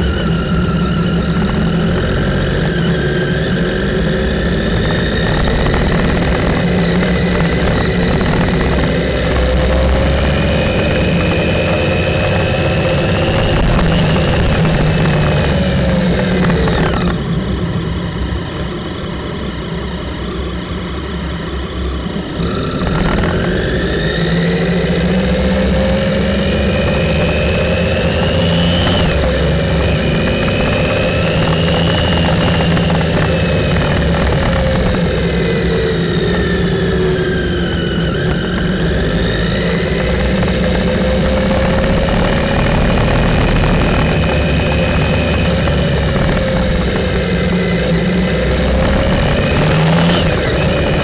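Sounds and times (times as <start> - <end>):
motorcycle engine running: 0.0 - 51.0
steady rushing noise: 0.0 - 51.0.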